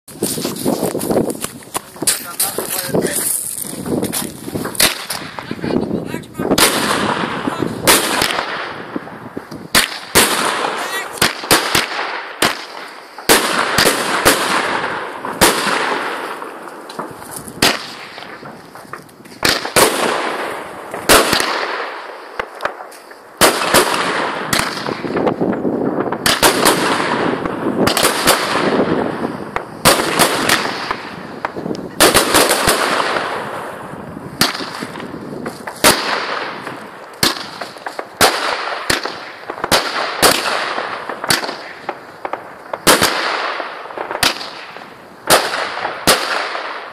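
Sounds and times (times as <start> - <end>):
fireworks bangs: 0.1 - 46.9
fireworks hiss and crackle: 0.1 - 46.9.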